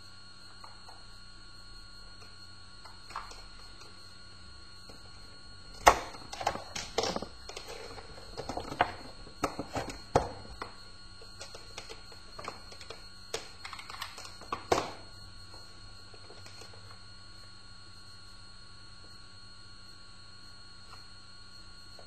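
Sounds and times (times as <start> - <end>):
faint high whine: 0.0 - 22.0.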